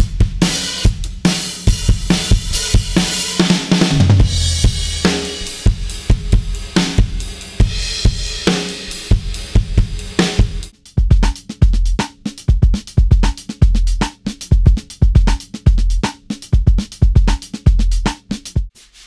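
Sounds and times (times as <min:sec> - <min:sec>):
dance drum beat: 0:00.0 - 0:18.7
rock drum groove: 0:00.0 - 0:18.8.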